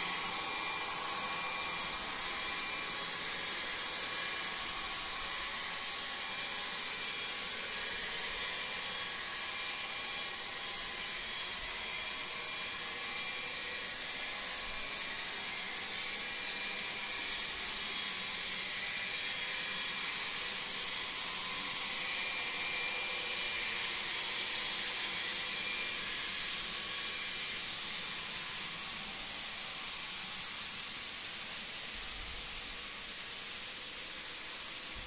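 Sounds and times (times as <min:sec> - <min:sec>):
faint high whine: 0:00.0 - 0:35.0.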